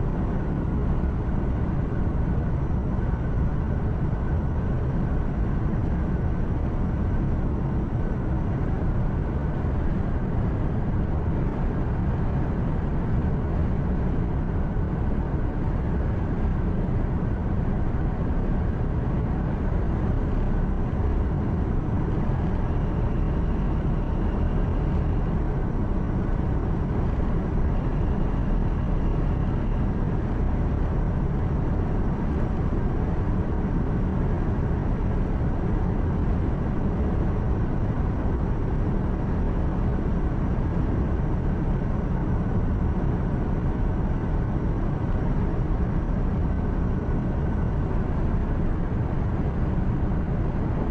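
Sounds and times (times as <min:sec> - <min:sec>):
truck engine hum: 0:00.0 - 0:50.8.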